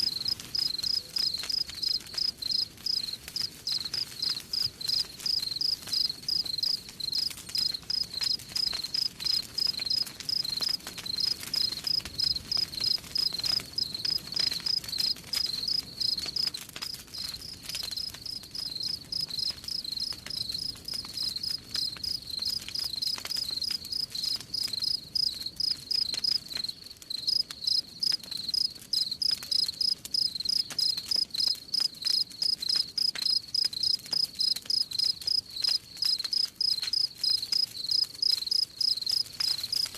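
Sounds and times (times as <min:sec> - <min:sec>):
wood fire crackling: 0:00.0 - 0:39.9
crickets chirping: 0:00.1 - 0:16.5, 0:18.0 - 0:39.9.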